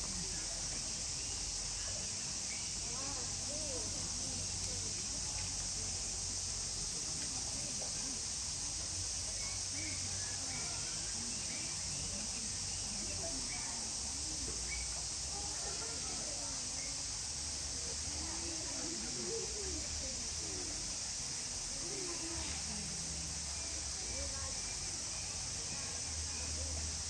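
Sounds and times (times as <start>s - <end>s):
cicadas chorus: 0.0s - 27.0s
people talking indistinctly: 0.0s - 27.0s.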